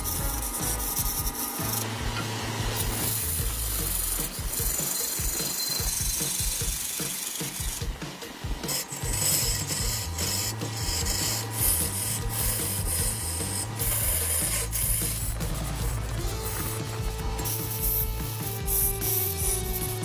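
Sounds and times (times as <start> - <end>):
lathe tool scraping spinning wood: 0.0 - 20.0.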